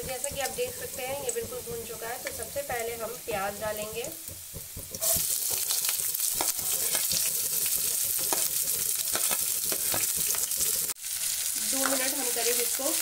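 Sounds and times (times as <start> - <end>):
oil crackling: 0.0 - 13.0
onions sizzling in oil: 0.0 - 13.0.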